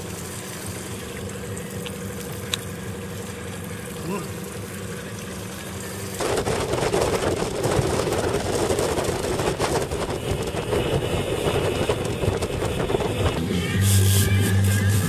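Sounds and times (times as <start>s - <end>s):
outboard motor running: 0.0s - 15.0s
water rushing past boat: 0.0s - 15.0s.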